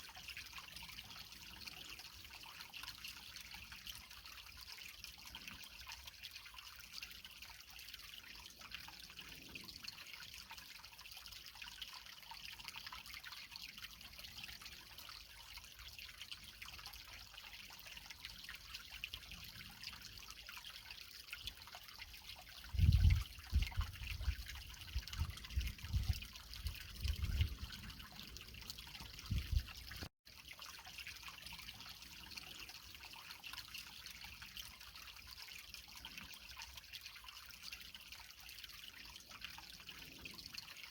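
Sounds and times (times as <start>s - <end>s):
creek trickling over rocks: 0.0s - 40.9s.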